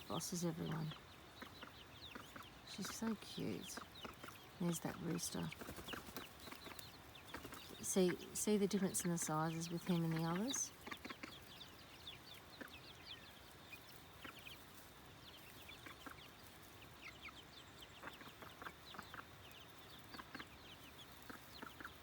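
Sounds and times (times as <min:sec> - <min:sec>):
chickens clucking and peeping: 0:00.0 - 0:22.0.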